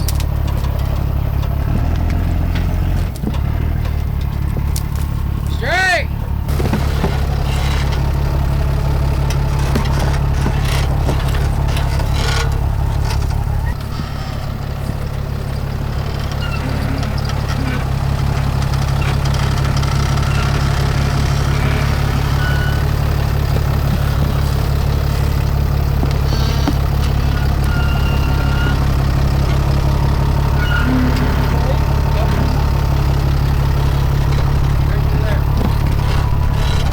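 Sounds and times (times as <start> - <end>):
truck engine idling: 0.0 - 36.9.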